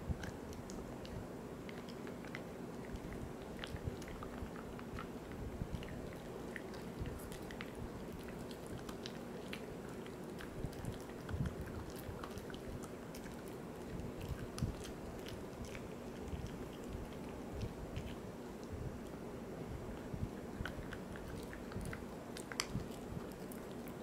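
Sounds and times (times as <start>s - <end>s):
dog chewing a dental chew: 0.1s - 19.2s, 19.9s - 24.0s.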